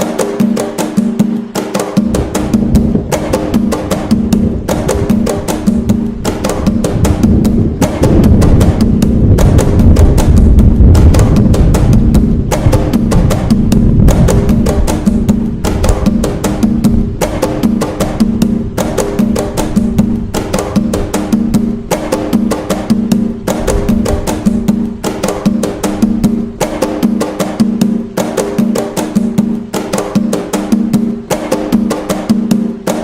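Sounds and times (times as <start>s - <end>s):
hand drums playing: 0.0s - 33.0s.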